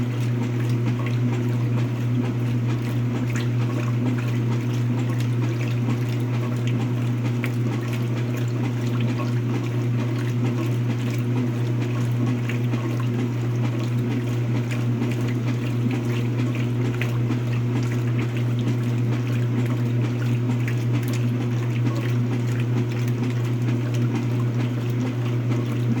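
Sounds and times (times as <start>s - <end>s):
washing machine humming: 0.0s - 26.0s.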